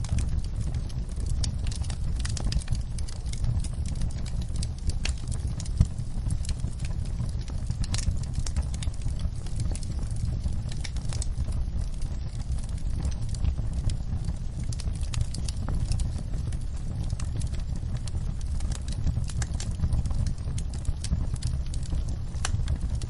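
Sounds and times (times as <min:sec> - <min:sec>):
low rumble: 0:00.0 - 0:23.0
wood fire crackling and popping: 0:00.0 - 0:23.0.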